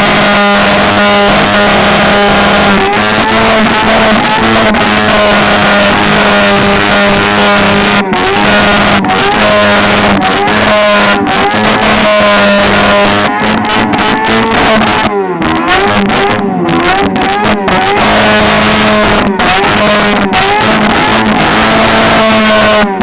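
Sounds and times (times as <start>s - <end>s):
car engine at high revs: 0.0s - 23.0s
dense roar of spinning tyres: 0.0s - 23.0s.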